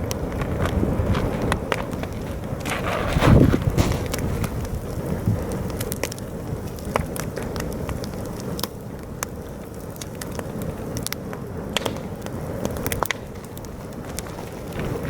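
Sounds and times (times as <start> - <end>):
campfire crackling and popping: 0.0 - 15.0
strong wind buffeting microphone: 0.0 - 15.0.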